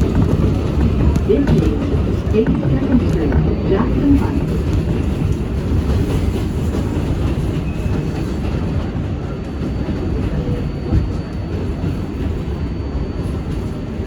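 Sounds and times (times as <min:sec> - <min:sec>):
subway wheels rumbling on rail: 0:00.0 - 0:14.0.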